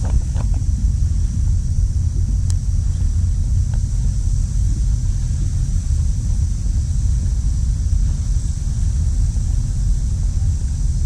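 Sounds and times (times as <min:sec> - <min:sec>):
faint high-pitched hiss: 0:00.0 - 0:11.0
wind buffeting microphone: 0:00.0 - 0:11.0.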